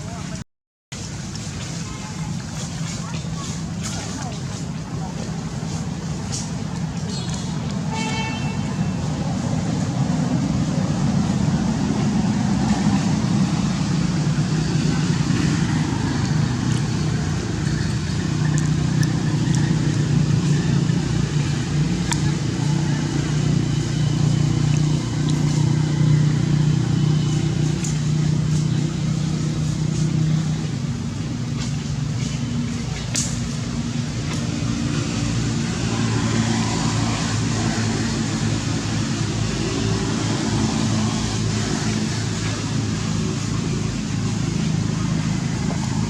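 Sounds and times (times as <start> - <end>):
road traffic rumble: 0.0 - 46.0
low motor hum: 1.1 - 46.0.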